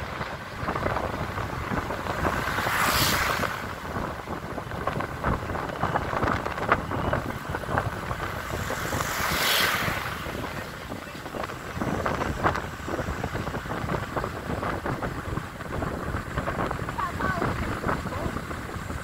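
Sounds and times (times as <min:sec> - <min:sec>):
passing traffic whooshes: 0:00.0 - 0:19.0
road and engine noise: 0:00.0 - 0:19.0
wind rushing over microphone: 0:00.0 - 0:19.0.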